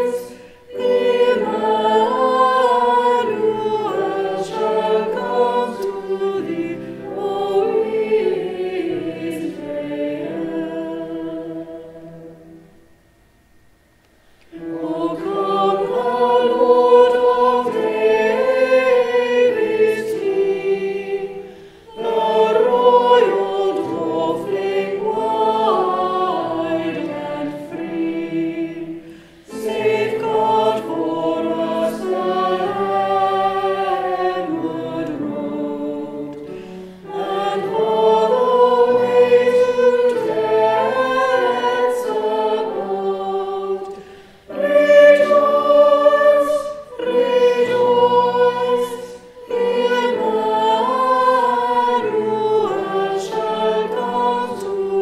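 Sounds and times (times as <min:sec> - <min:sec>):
girls' choir singing: 0:00.0 - 0:12.8, 0:14.5 - 0:55.0.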